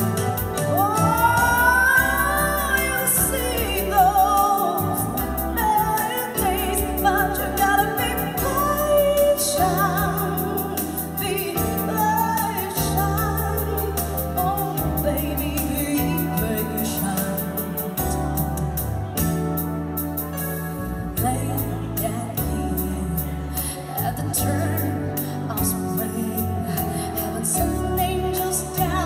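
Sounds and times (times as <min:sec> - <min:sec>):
woman singing with vibrato: 0:00.0 - 0:19.1, 0:21.0 - 0:29.0
electronic keyboard with beat: 0:00.0 - 0:29.0.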